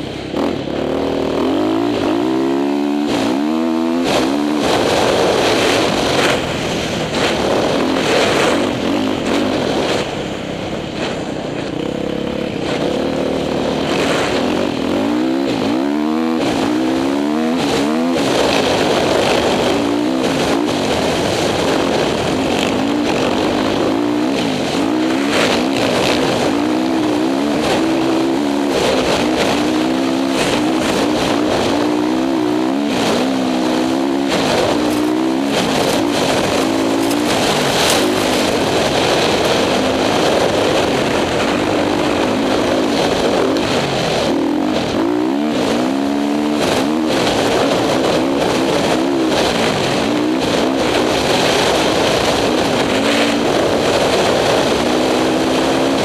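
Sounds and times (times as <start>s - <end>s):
dirt bike engine revving: 0.0s - 56.0s
wind noise: 0.0s - 56.0s.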